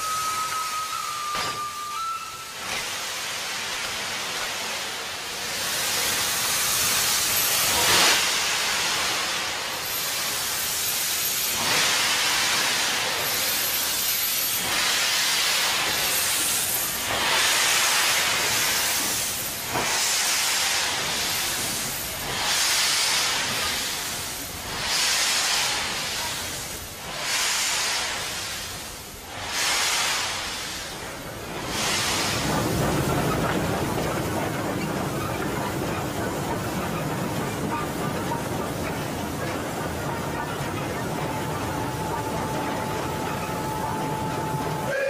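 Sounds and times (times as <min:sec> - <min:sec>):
steam locomotive hissing steam: 0:00.0 - 0:45.0.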